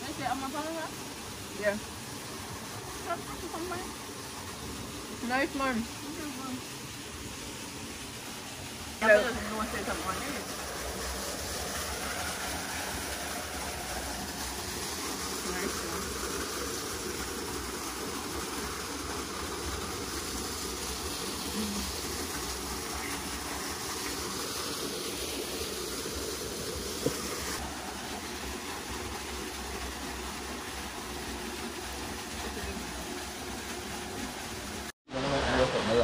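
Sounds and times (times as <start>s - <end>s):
small waterfall pouring into pool: 0.0s - 36.0s.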